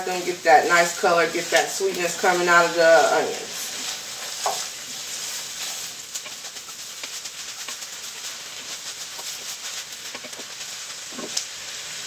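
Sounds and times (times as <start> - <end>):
wooden spoon stirring: 0.0 - 11.6
onions sizzling in a pot: 0.0 - 12.0.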